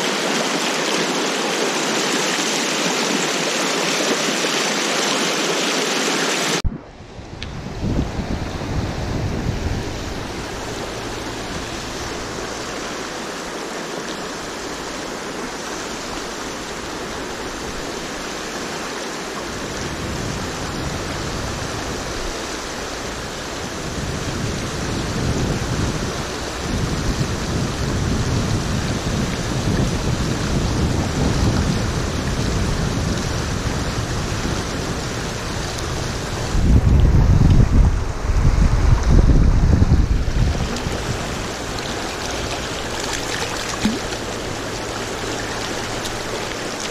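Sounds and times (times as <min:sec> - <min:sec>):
flowing river: 0:00.0 - 0:46.9
wind buffeting microphone: 0:06.6 - 0:46.9.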